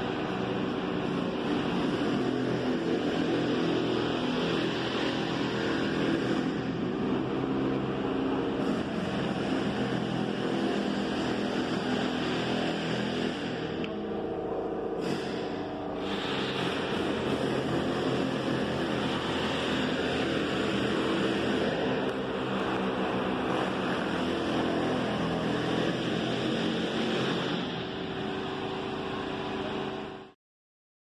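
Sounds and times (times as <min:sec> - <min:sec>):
machine droning hum: 0:00.0 - 0:30.4.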